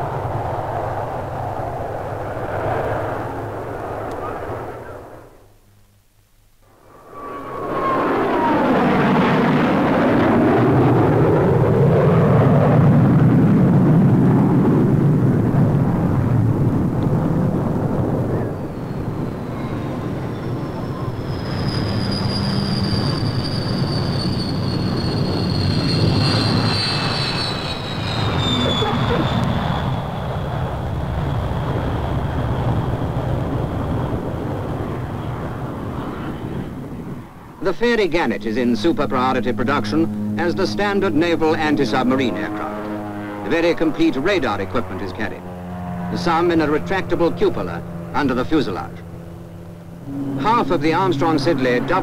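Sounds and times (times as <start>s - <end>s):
jet bomber flying low: 0.0s - 5.6s, 6.6s - 52.0s.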